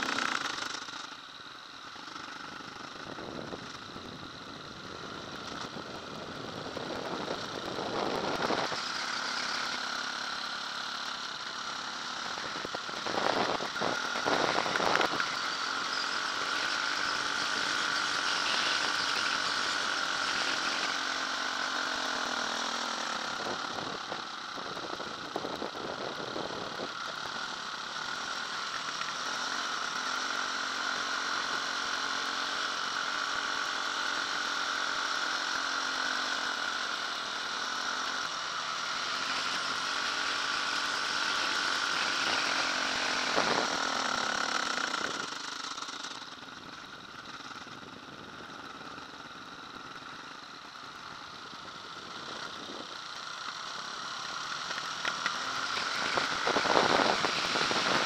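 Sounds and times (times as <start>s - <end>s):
off-road motorcycle engine: 0.0s - 58.0s.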